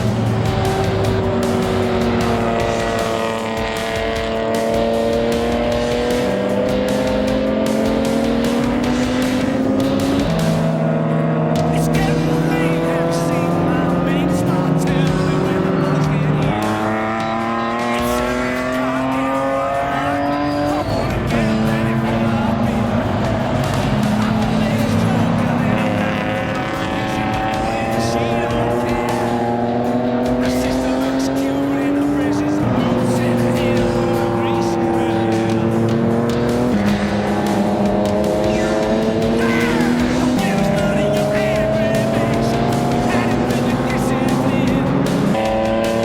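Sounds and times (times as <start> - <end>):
race car engine rising pitch: 0.0 - 46.0.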